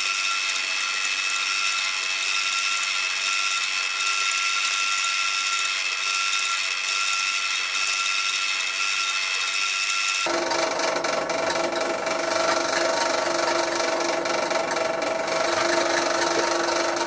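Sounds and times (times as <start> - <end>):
electric power tool whining: 0.0 - 17.0.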